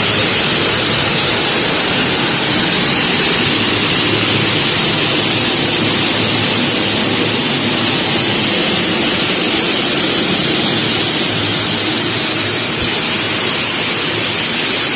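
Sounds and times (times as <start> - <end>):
shelling machine running: 0.0 - 14.9.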